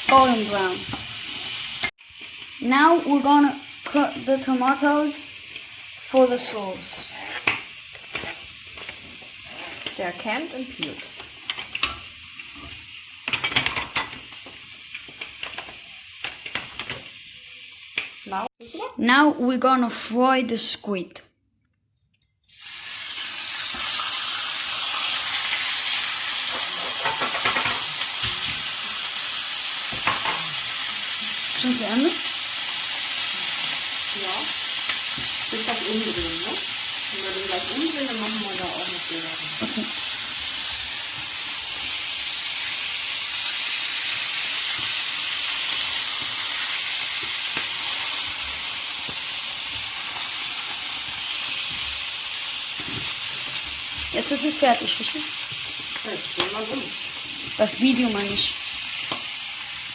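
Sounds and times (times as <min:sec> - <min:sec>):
squid sizzling in a frying pan: 0:00.0 - 0:18.5, 0:22.5 - 0:59.9.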